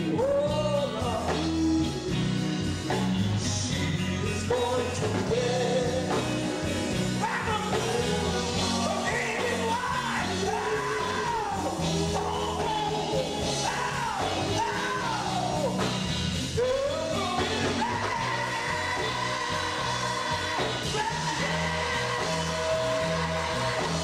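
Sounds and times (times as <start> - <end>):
bass line: 0.0 - 24.0
male vocal group singing gospel: 0.0 - 24.0.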